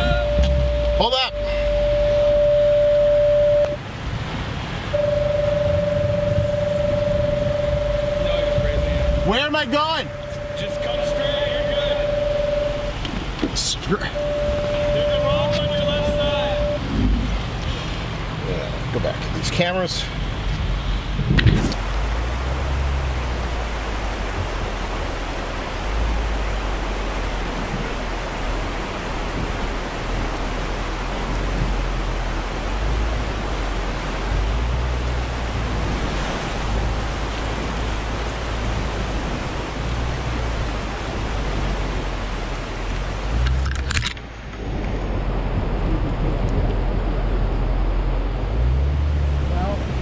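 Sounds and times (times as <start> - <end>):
engine rumble: 0.0 - 50.0
river rushing: 0.0 - 50.0.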